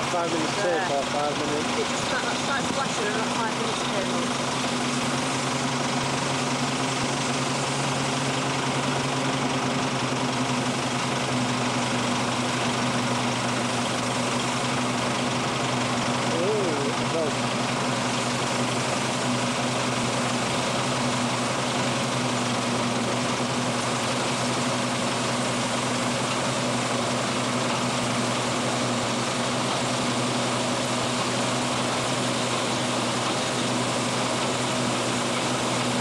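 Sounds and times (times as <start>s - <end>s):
combine harvester droning: 0.0s - 36.0s.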